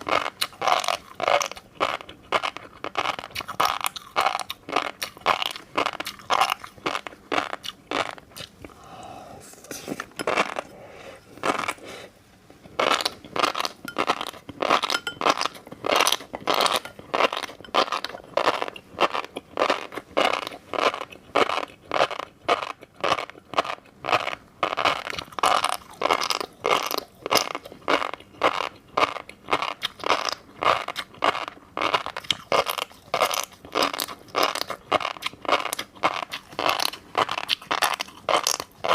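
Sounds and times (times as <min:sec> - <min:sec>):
chewing crunchy fish roe: 0:00.0 - 0:08.9, 0:10.0 - 0:38.9.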